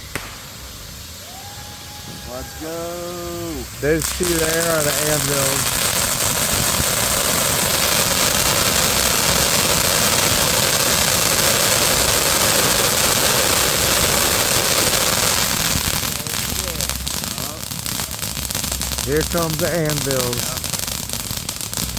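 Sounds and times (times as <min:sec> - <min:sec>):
firework fountain roaring hiss: 0:00.0 - 0:21.9.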